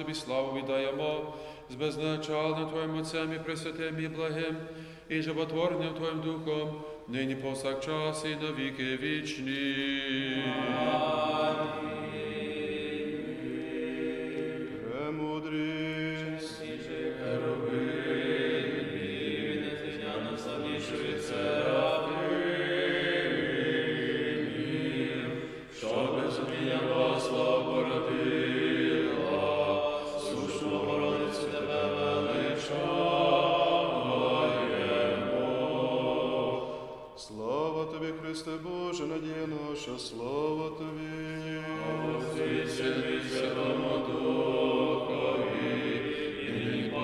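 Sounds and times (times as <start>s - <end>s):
men singing liturgical chant: 0.0s - 47.0s.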